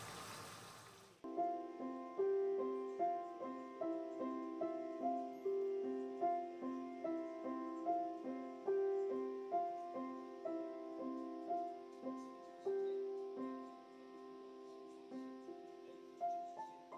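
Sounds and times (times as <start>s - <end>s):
piano melody: 1.2s - 16.9s.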